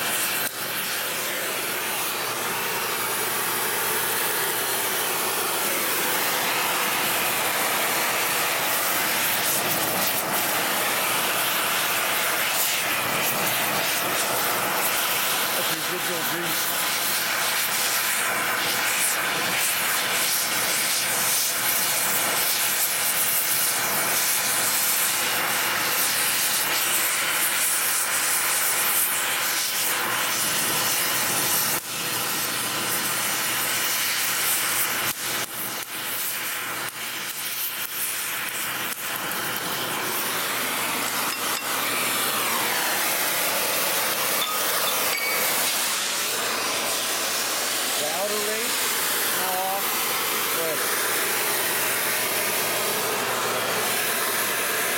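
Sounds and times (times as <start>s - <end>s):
cutting torch hissing: 0.0s - 54.9s.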